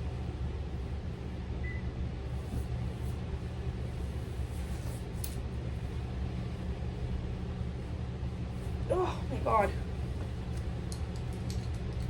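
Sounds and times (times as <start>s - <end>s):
low room noise rumble: 0.0s - 12.0s.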